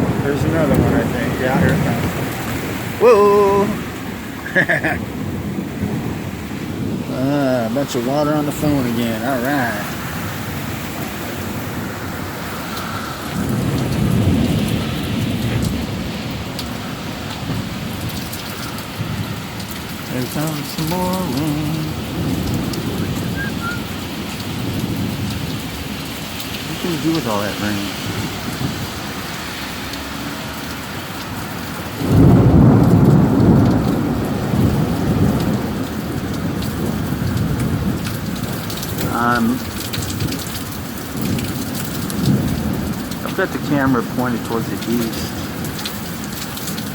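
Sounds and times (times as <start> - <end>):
low rumble of thunder: 0.0 - 3.0, 3.6 - 46.9
heavy rain pouring: 0.0 - 46.9
sharp ticks of raindrops: 0.0 - 46.9.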